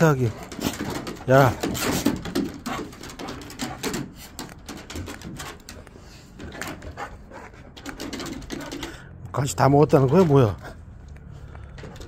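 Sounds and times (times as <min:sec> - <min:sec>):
dogs eating treats: 0:00.0 - 0:12.0.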